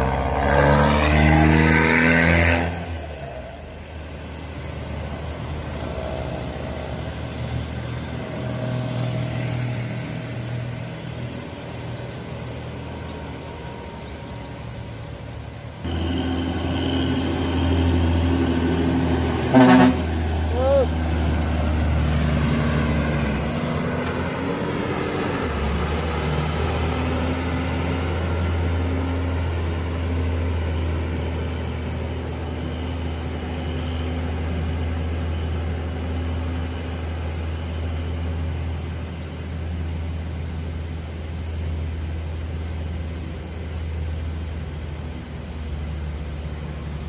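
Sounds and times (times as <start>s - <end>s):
truck diesel engine pulling away: 0.0s - 47.0s.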